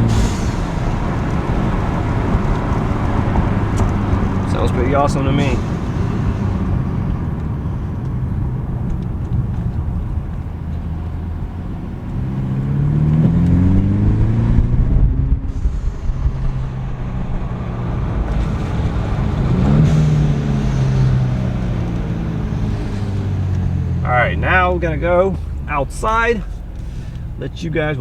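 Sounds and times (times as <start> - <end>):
car exhaust droning while driving: 0.0 - 28.0.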